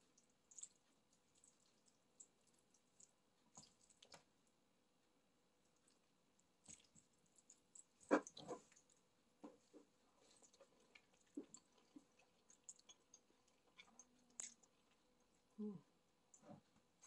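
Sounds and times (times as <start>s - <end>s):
soft chewing and slurping: 0.0s - 17.0s.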